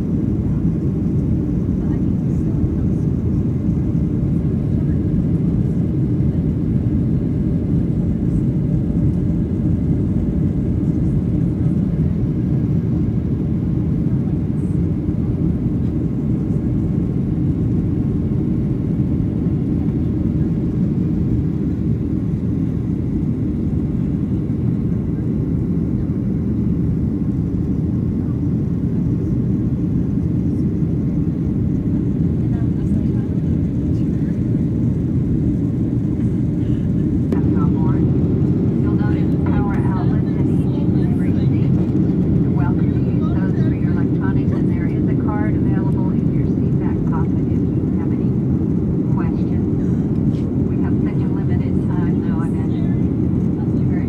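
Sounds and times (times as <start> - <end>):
jet engines and rushing air: 0.0 - 54.0.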